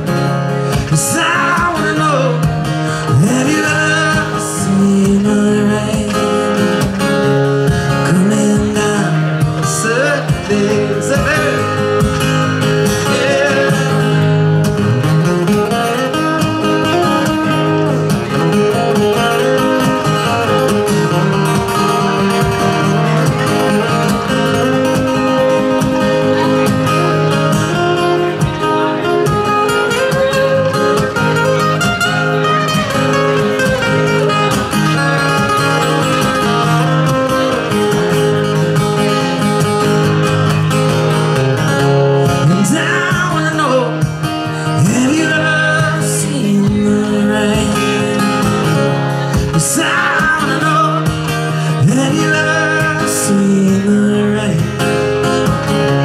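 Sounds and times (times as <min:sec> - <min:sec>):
man singing: 0:00.0 - 0:37.8, 0:41.6 - 0:56.0
acoustic guitar strumming: 0:00.0 - 0:56.0.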